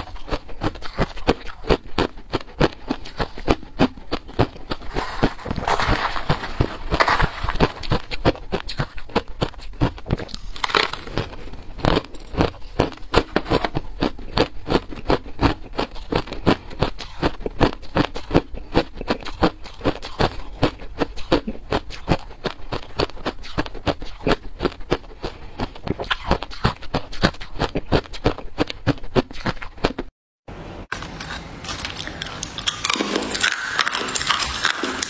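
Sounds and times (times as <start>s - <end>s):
crushed ice being chewed: 0.0s - 30.1s, 30.9s - 35.0s.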